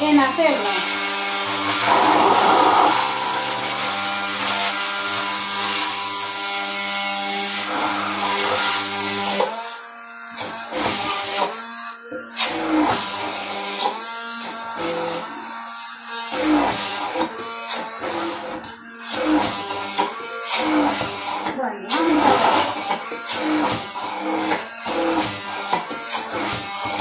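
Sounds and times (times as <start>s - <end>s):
immersion blender running: 0.0s - 27.0s.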